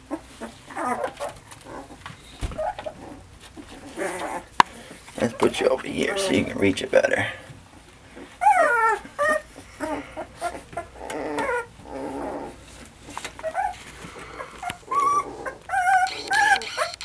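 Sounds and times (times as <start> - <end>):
puppies whimpering and whining: 0.0 - 6.6, 8.1 - 17.0.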